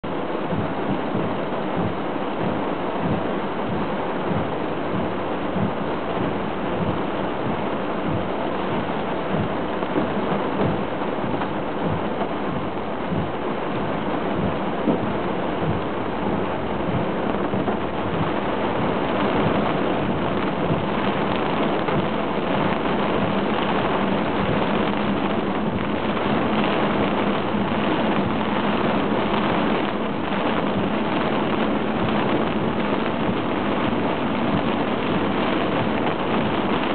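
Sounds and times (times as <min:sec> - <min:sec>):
heavy rain drumming on car roof: 0:00.0 - 0:36.9.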